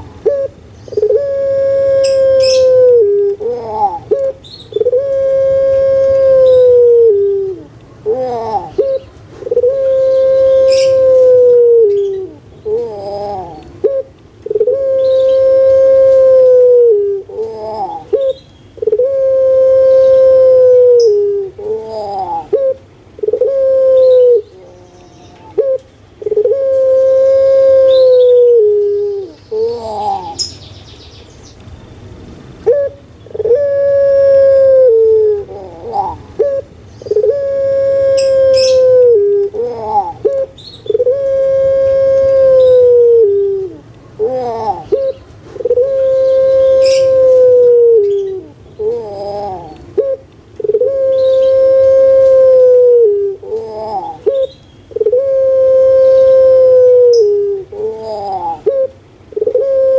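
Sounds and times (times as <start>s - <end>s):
dove cooing: 0.0s - 30.5s, 32.6s - 59.9s.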